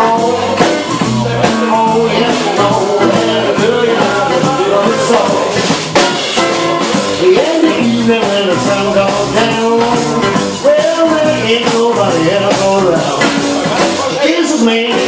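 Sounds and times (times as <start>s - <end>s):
man singing into a microphone: 0.0s - 5.7s, 7.1s - 15.0s
drum and cymbal hits: 0.0s - 15.0s
electric guitar: 0.0s - 15.0s
strummed acoustic guitar: 0.0s - 15.0s.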